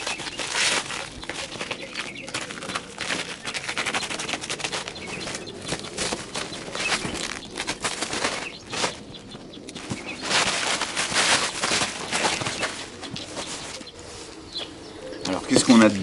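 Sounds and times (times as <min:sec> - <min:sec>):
plastic wrapping crackling: 0:00.0 - 0:13.9.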